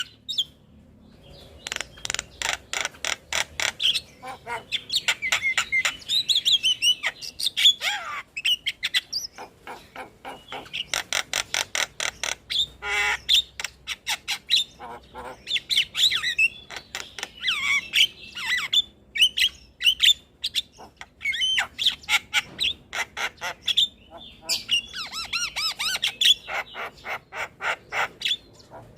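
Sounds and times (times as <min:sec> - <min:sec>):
mynas calling: 0:01.6 - 0:28.9.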